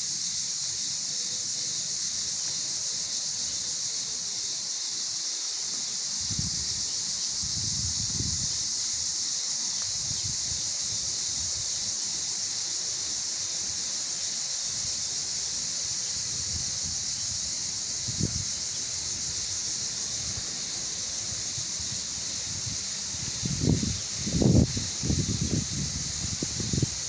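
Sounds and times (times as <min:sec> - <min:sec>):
high-pitched hiss: 0:00.0 - 0:27.0.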